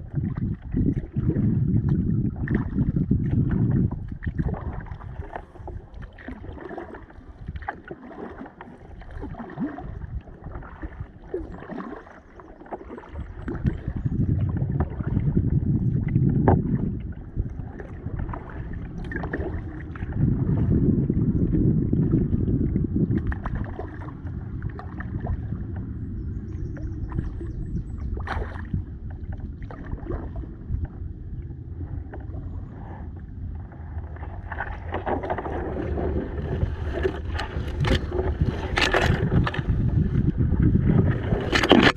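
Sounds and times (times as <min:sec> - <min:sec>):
low rumble: 0:00.0 - 0:07.7, 0:13.1 - 0:41.9
paddle strokes in water: 0:00.0 - 0:41.9.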